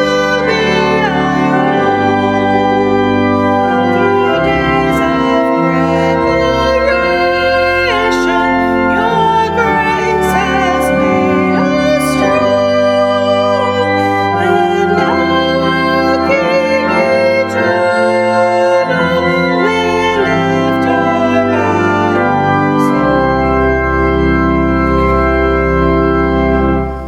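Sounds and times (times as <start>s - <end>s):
organ playing sustained chords: 0.0s - 27.0s.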